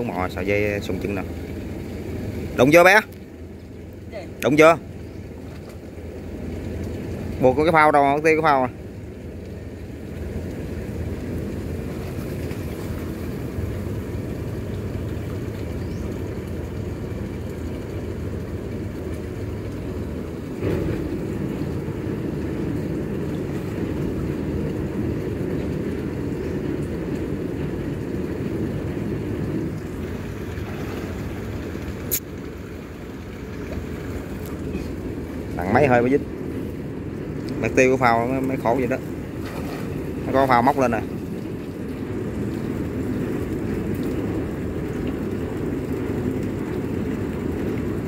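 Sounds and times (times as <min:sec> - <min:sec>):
boat engine running: 0:00.0 - 0:48.0.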